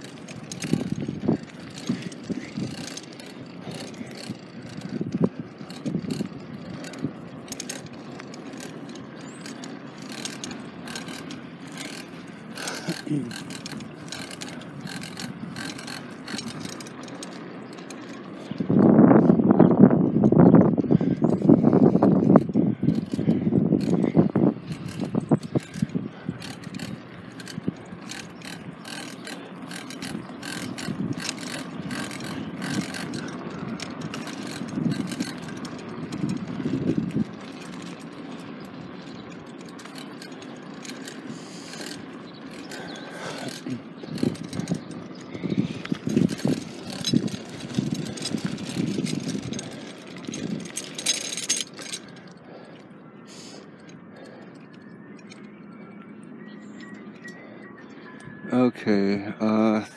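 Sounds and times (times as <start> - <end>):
freewheel ratchet ticking: 0.0 - 19.3, 20.2 - 52.9
bicycle chain and frame rattling: 0.0 - 59.9.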